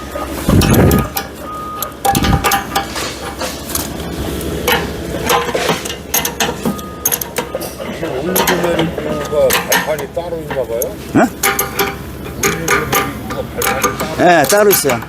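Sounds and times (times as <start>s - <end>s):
metal clinks and knocks: 0.0s - 15.0s.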